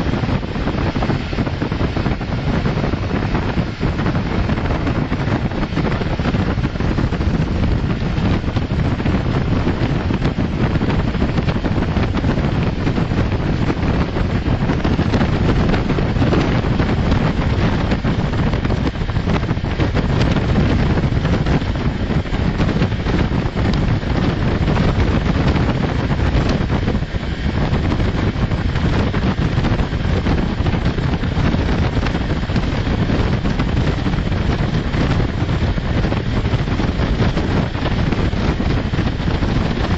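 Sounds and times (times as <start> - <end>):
train wheels rumbling on rails: 0.0 - 39.9
wind buffeting microphone: 0.0 - 39.9.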